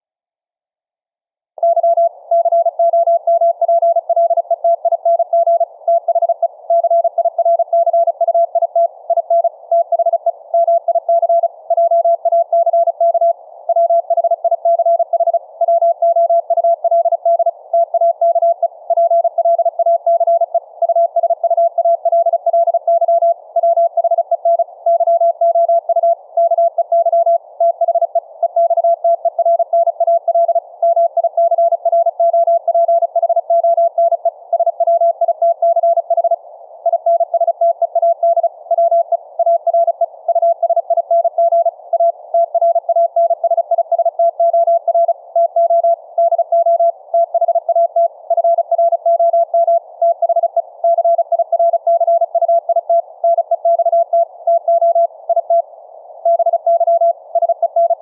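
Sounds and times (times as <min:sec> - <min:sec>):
morse code beeps: 0:01.6 - 0:58.0.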